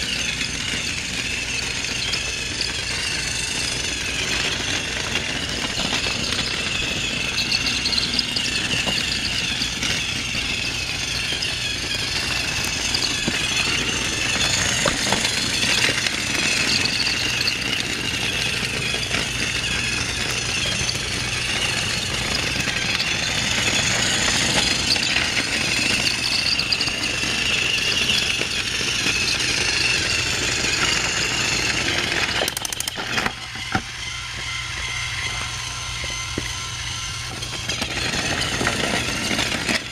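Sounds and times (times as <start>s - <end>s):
toy train motor whir: 0.0s - 39.9s
toy train wheels rattling: 0.0s - 39.9s.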